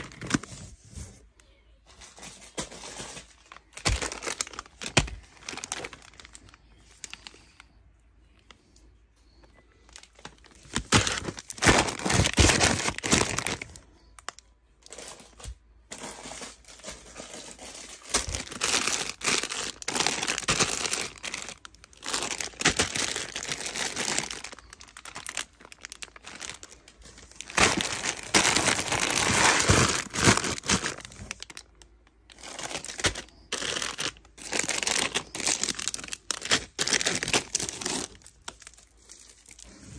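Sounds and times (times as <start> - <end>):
plastic bags crinkling: 0.0 - 0.9, 2.0 - 39.9.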